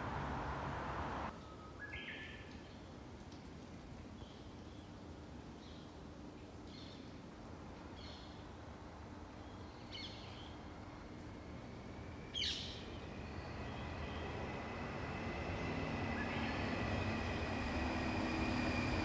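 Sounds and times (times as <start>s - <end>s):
low rumble of street traffic: 0.0s - 19.0s.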